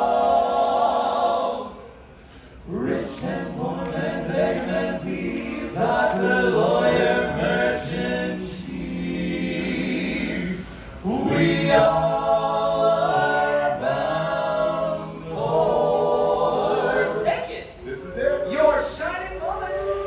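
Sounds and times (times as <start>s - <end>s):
men singing in close harmony: 0.0s - 1.8s, 2.7s - 17.2s.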